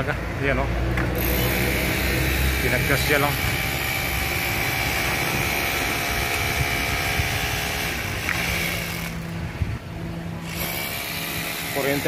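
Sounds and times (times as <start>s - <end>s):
machinery drone: 1.2s - 12.0s.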